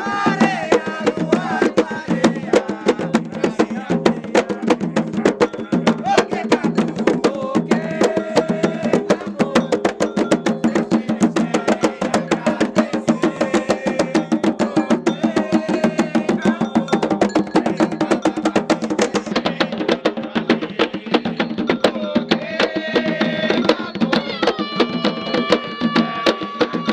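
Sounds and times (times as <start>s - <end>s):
fast drumming: 0.0s - 26.9s
voices singing: 0.0s - 26.9s.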